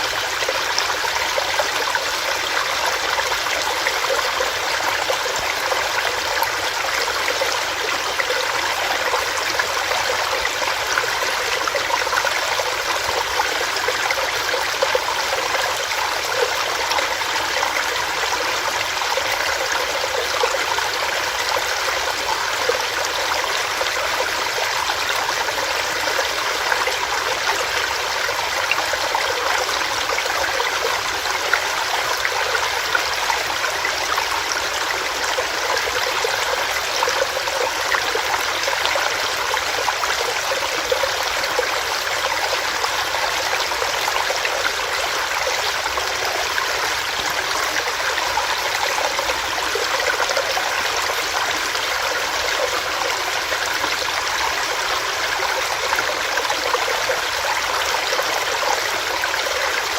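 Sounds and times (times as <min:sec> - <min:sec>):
stream water splashing over rocks: 0:00.0 - 0:59.9.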